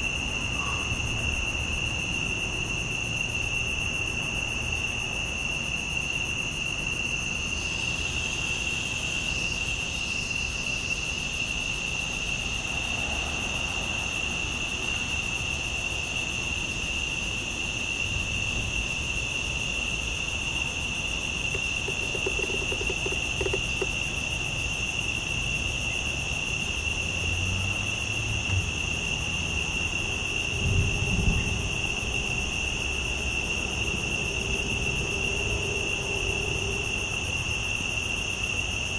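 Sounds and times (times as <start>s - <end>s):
crickets shrill drone: 0.0s - 38.9s.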